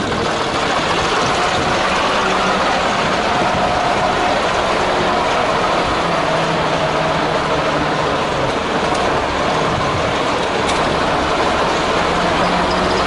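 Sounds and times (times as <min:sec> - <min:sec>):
fire engine engine running: 0:00.0 - 0:13.0.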